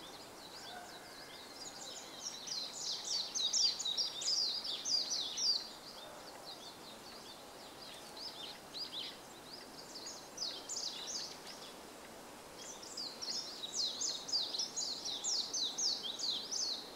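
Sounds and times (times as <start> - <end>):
bird twittering song: 0.0 - 16.9.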